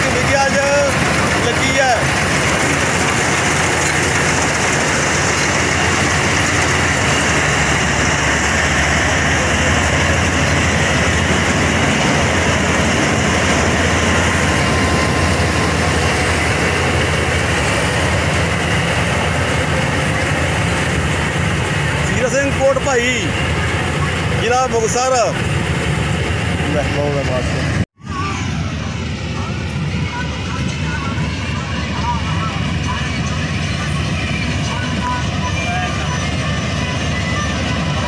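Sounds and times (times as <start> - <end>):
combine harvester running: 0.0 - 38.0.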